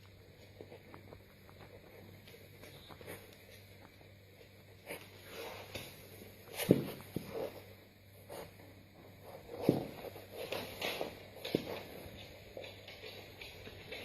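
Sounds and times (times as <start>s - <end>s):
soft scuffling and padding: 0.3s - 14.0s.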